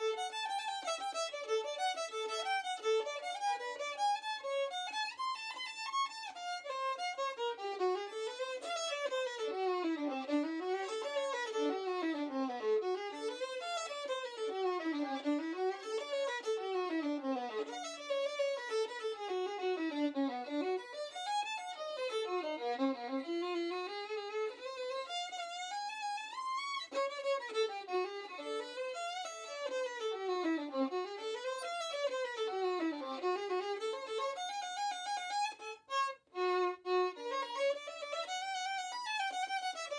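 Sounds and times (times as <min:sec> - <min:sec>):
solo violin fast runs: 0:00.0 - 0:39.9.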